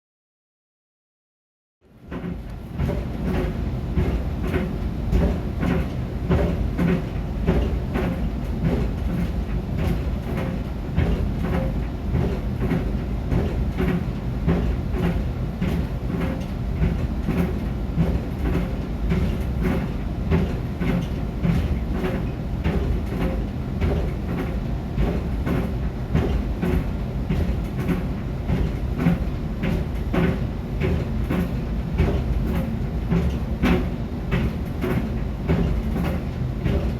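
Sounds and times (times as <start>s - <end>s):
dryer drum rumbling: 1.9s - 36.9s
sneakers thumping in a dryer: 2.1s - 36.9s.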